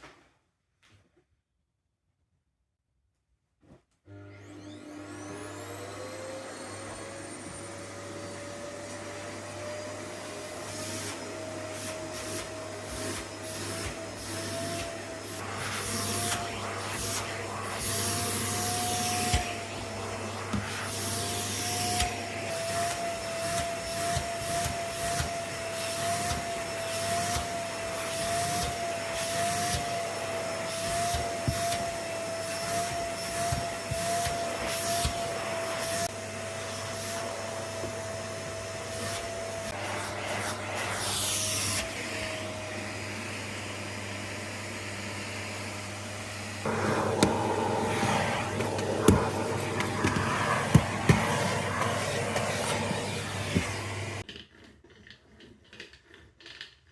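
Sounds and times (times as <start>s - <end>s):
vacuum cleaner running: 4.0s - 54.2s.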